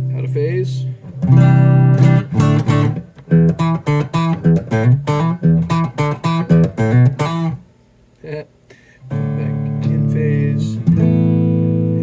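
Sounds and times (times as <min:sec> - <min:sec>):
electric guitar chords: 0:00.0 - 0:07.6, 0:09.0 - 0:12.0.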